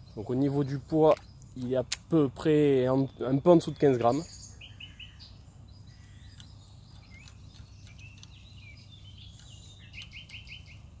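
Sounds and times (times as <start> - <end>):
birds singing and calling: 0.0 - 11.0.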